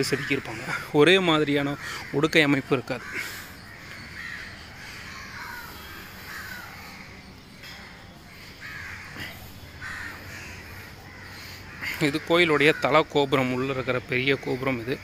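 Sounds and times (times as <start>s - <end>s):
background ambience: 0.0s - 15.0s
birds calling: 0.0s - 15.0s.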